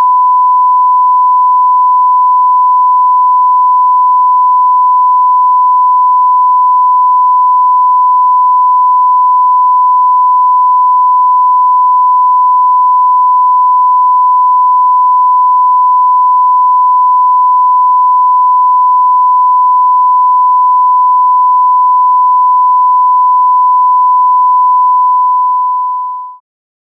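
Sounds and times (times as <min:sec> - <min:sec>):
steady electronic sine tone: 0:00.0 - 0:26.4.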